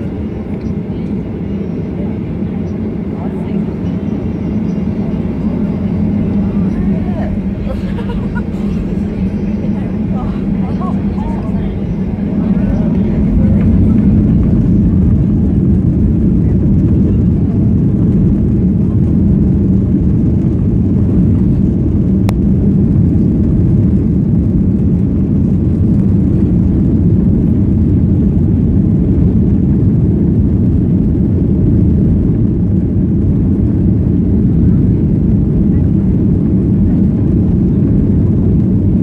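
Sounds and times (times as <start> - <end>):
jet engines droning in cabin: 0.0 - 39.0.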